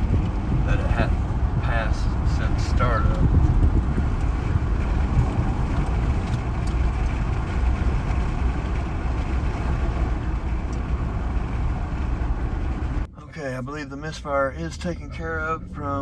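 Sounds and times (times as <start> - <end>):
pickup engine and road rumble: 0.0 - 16.0.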